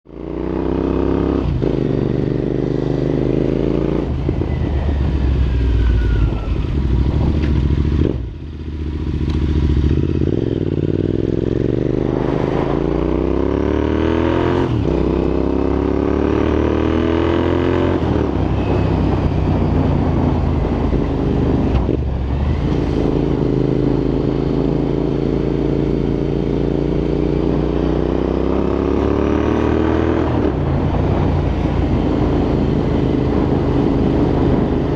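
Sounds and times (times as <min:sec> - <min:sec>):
motorcycle engine accelerating: 0:00.1 - 0:34.9
wind rushing over microphone: 0:01.0 - 0:08.5, 0:09.8 - 0:34.9.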